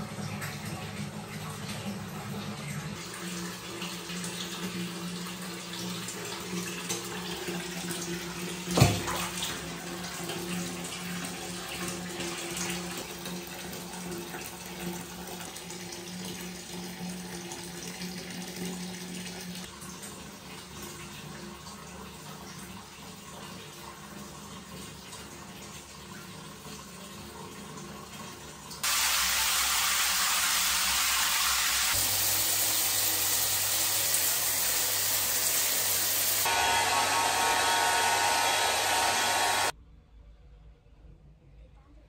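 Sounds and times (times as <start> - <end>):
running water: 0.0 - 39.7.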